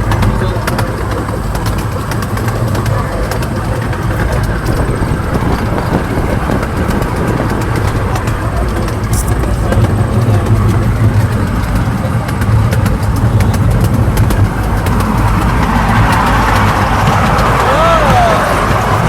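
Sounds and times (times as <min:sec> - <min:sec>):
low hum: 0:00.0 - 0:19.0
moving vehicle rumble: 0:00.0 - 0:19.0
small clicks and rattles: 0:00.0 - 0:19.0.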